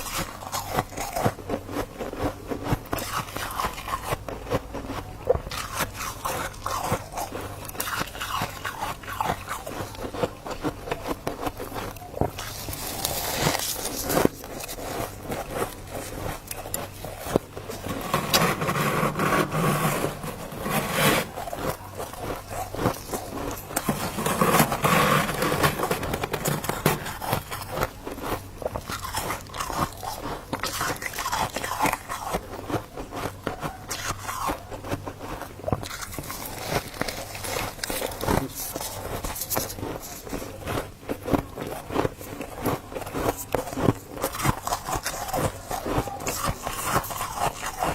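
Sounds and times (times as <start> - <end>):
frost being chewed: 0.0 - 47.9.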